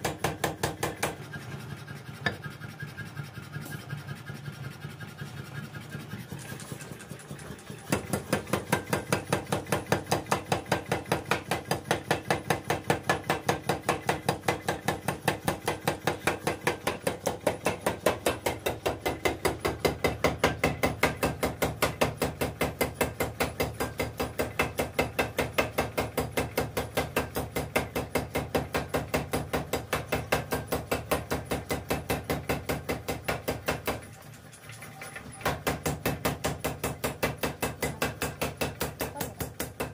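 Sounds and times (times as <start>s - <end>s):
power hammer pounding metal: 0.0s - 1.3s, 7.8s - 34.1s, 35.4s - 39.9s.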